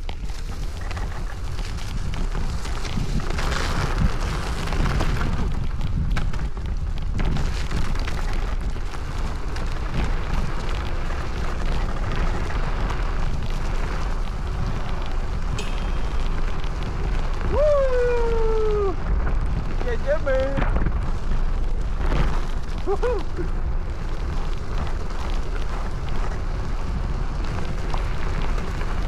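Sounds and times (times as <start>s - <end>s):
scooter motor rumble: 0.0s - 29.0s
wind buffeting microphone: 0.0s - 29.0s.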